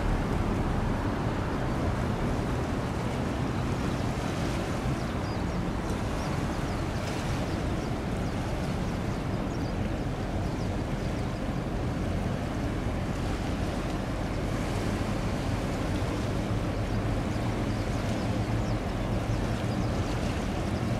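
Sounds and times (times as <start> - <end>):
ship engine rumble: 0.0 - 20.9.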